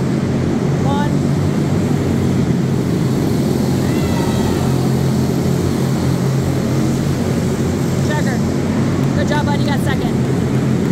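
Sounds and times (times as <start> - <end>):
high wavering whine: 0.0 - 10.9
race car engines drone: 0.0 - 10.9.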